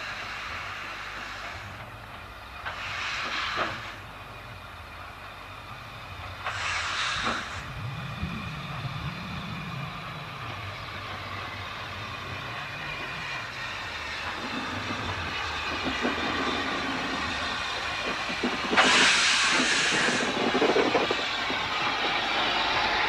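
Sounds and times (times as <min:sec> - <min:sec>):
loud steam hiss: 0:00.0 - 0:23.0
steam locomotive rumbling: 0:00.0 - 0:23.0.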